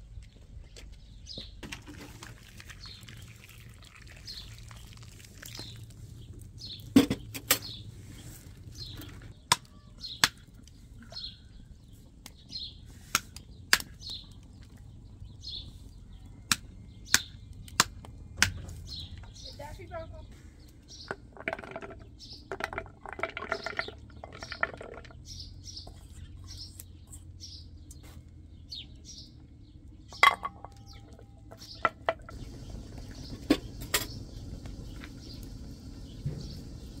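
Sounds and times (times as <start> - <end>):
bird chirping: 5.5 - 22.7, 23.4 - 37.0.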